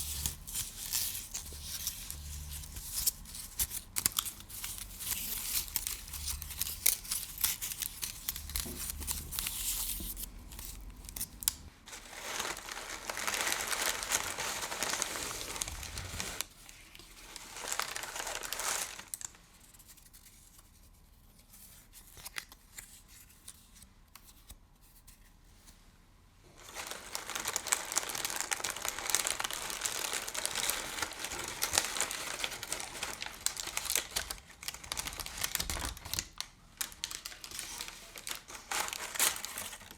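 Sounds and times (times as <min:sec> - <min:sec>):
crinkly material crumpling: 0:00.0 - 0:23.8, 0:26.4 - 0:39.9.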